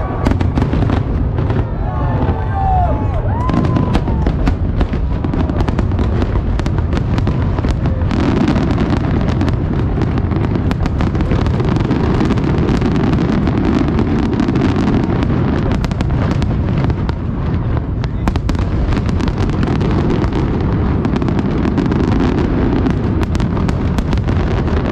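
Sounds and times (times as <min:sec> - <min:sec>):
fireworks bangs and crackles: 0:00.0 - 0:24.9
heavy rumble: 0:00.0 - 0:24.9.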